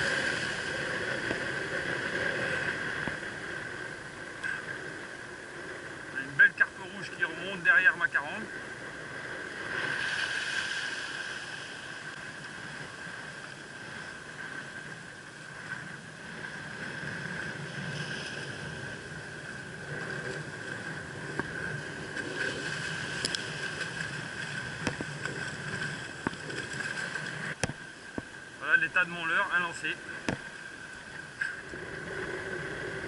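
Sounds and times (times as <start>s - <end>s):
wind on microphone: 0.0s - 6.2s, 8.2s - 28.4s, 30.0s - 33.0s.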